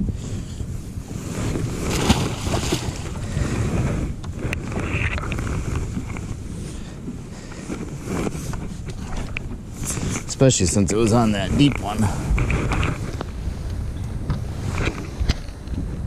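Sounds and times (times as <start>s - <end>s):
boat engine rumble: 0.0s - 16.0s
wind buffeting microphone: 0.0s - 16.0s.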